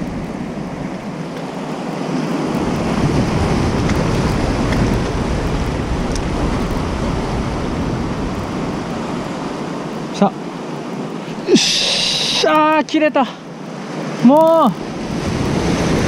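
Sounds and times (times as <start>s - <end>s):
wind rumbling on microphone: 0.0s - 12.6s, 14.7s - 16.0s
rough sea washing through blocks: 0.0s - 16.0s.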